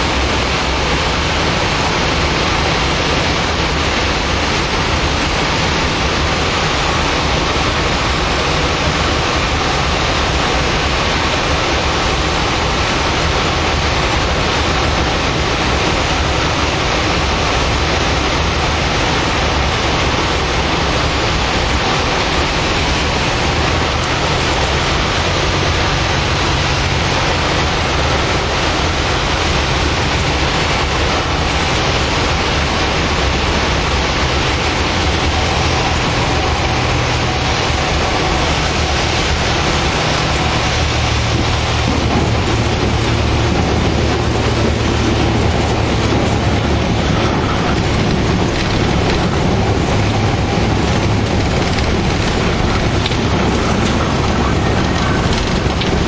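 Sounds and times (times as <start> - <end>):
aircraft engine and propeller: 0.0 - 56.0
airflow rushing: 0.0 - 56.0.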